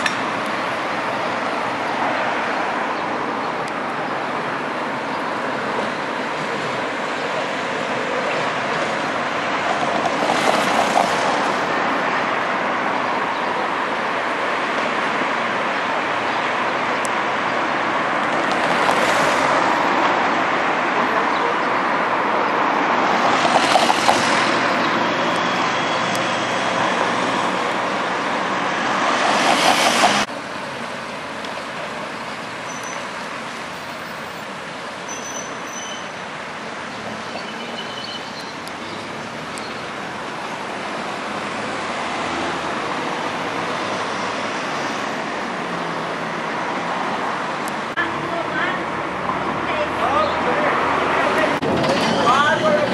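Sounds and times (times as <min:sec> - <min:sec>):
city road traffic: 0:00.0 - 0:52.9
cars swishing past: 0:05.4 - 0:30.3, 0:32.6 - 0:52.9.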